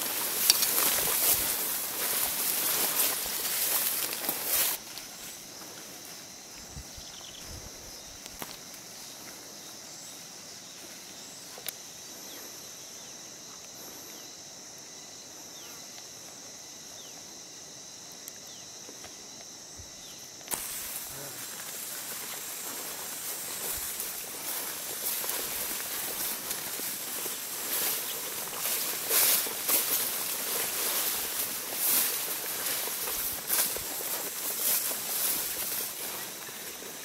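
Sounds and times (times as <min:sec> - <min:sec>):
walking through tall grass: 0:00.0 - 0:18.0, 0:18.6 - 0:37.0
insects droning: 0:00.0 - 0:37.0.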